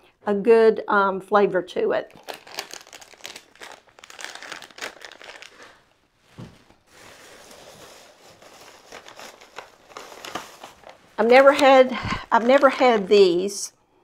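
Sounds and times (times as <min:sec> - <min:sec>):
packaging rustling: 0:02.1 - 0:13.5
plastic snack bag crackling: 0:02.1 - 0:13.6.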